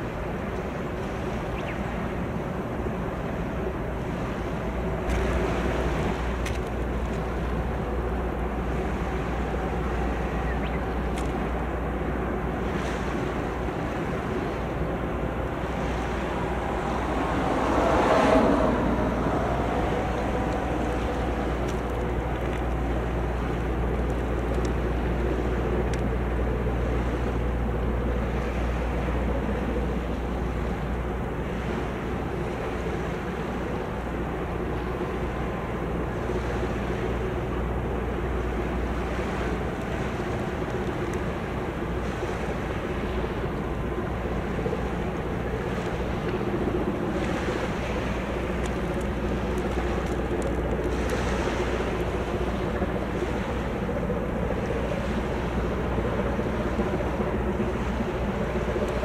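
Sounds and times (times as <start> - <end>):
ship engine low rumble: 0.0 - 59.0
water washing along a hull: 0.0 - 59.0
wind buffeting microphone: 0.0 - 59.0.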